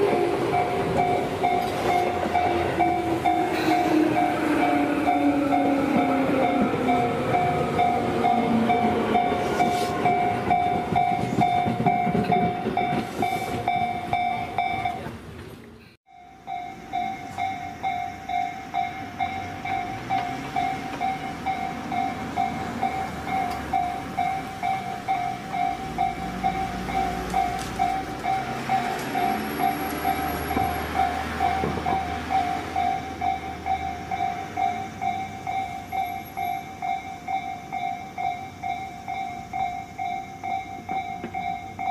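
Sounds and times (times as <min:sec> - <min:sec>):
level crossing warning bell: 0:00.0 - 0:15.1, 0:16.1 - 0:41.9
electric train passing with whine: 0:00.0 - 0:41.9.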